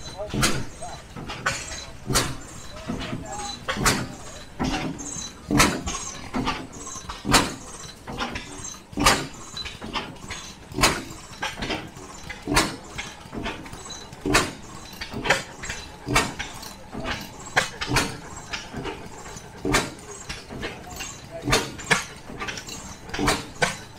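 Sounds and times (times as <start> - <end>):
faint engine clicks: 0.0 - 23.9
stationary gas engine running slowly: 0.0 - 23.9.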